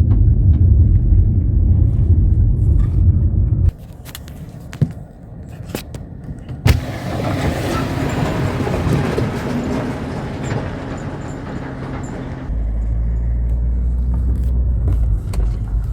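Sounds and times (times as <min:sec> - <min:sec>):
car engine and road noise: 0:00.0 - 0:15.9
deep heavy rumble: 0:00.0 - 0:15.9.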